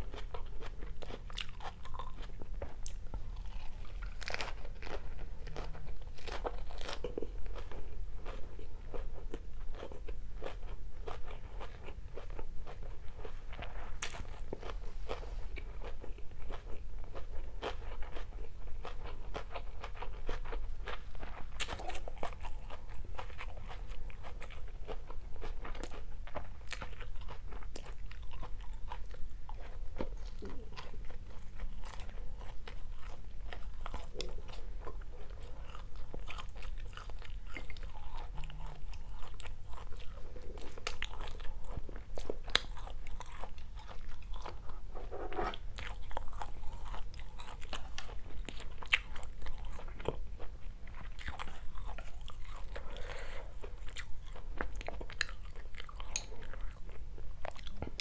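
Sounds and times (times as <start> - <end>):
close chewing and crunching: 0.0 - 58.0
faint low hum: 0.0 - 58.0.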